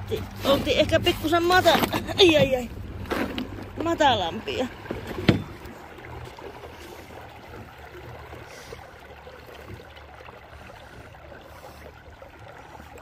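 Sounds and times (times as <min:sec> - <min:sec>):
low steady hum: 0:00.0 - 0:13.0
water lapping against boat hull: 0:00.0 - 0:13.0.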